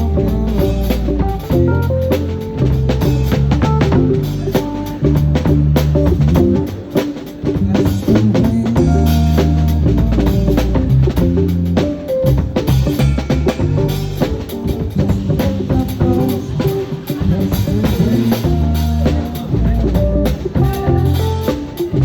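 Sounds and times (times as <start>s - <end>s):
bass notes: 0.0s - 22.0s
drum kit beat: 0.0s - 22.0s.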